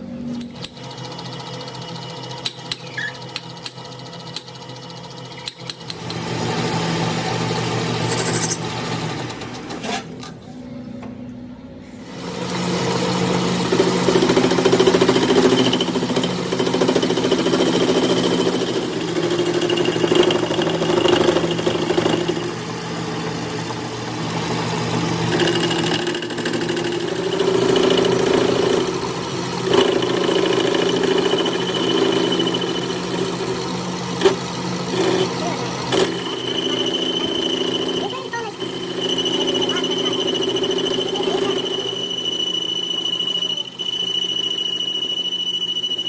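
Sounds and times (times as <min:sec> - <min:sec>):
metal lathe running: 0:00.3 - 0:10.1, 0:12.0 - 0:46.0.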